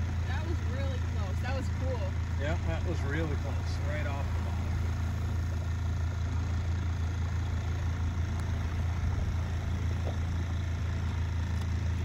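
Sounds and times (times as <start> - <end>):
outboard motor droning: 0.0 - 12.0.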